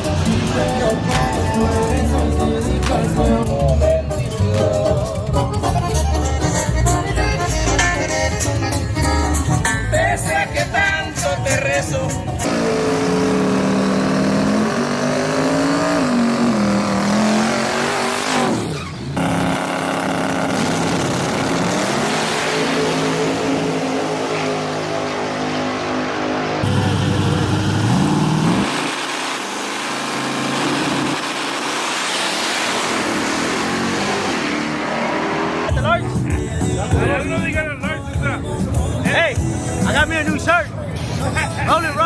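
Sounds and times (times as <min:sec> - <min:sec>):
race engines revving: 0:00.0 - 0:42.0.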